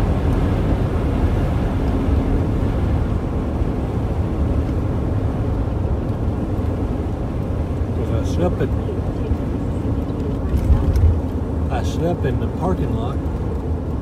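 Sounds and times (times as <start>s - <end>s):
car road and engine drone: 0.0s - 14.0s.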